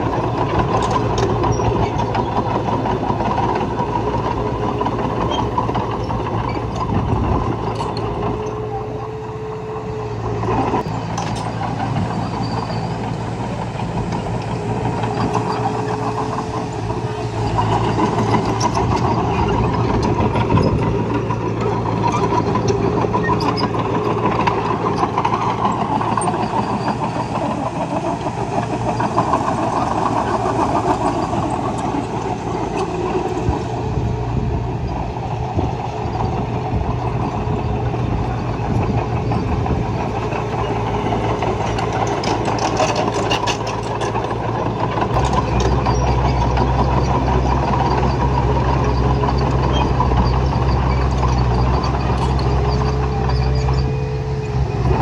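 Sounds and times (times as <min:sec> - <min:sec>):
heavy machinery engine running: 0:00.0 - 0:55.0.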